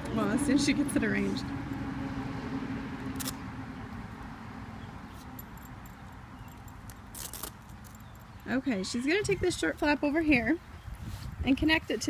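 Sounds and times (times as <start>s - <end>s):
low outdoor rumble: 0.0s - 10.7s.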